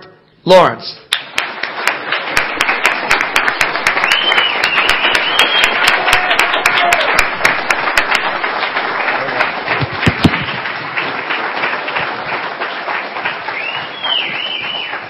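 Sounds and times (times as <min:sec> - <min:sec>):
audience applauding: 0:01.1 - 0:15.0.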